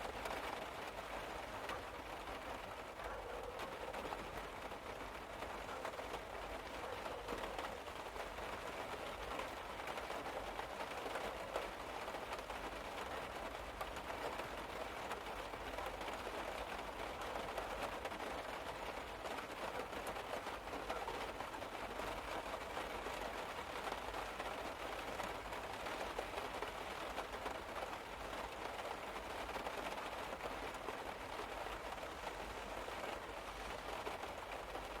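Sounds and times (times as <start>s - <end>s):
rain pattering on car roof: 0.0s - 35.0s.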